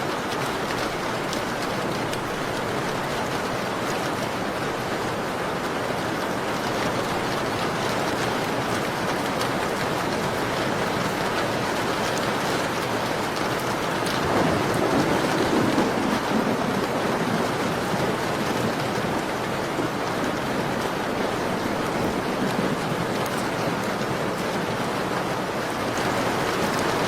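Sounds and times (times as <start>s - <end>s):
rain pattering on a window: 0.0s - 27.0s.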